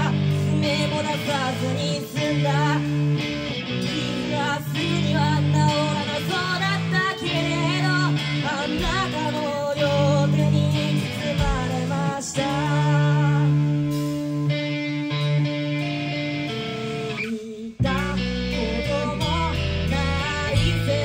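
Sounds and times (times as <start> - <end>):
bass guitar: 0.0 - 21.0
drums: 0.0 - 21.0
electric guitar: 0.0 - 21.0
person singing: 0.0 - 21.0.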